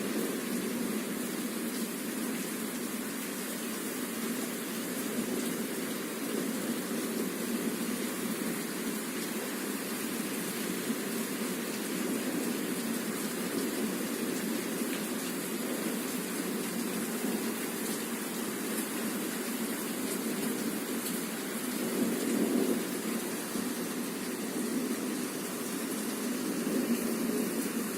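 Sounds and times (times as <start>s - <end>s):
heavy rain pouring: 0.0s - 27.9s.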